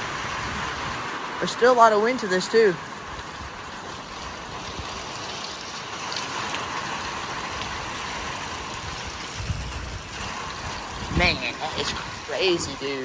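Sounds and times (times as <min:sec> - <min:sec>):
gusts rumbling: 0:00.0 - 0:13.0
wind and rain hissing: 0:00.0 - 0:13.0.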